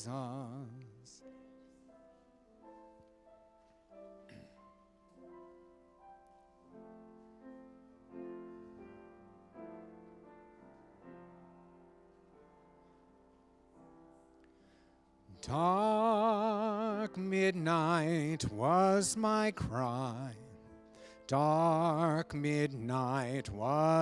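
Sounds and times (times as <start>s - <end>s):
soft piano notes and chords: 0.0s - 24.0s.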